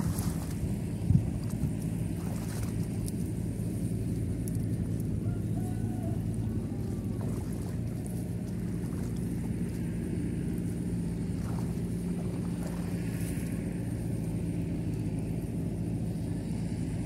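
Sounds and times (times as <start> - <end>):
small engine droning: 0.0 - 17.0.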